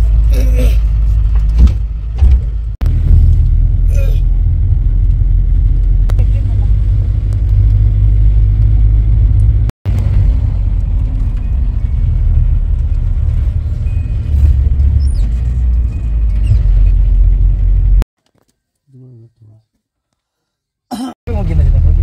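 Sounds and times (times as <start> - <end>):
vehicle road rumble inside cabin: 0.0 - 18.1, 21.3 - 22.0.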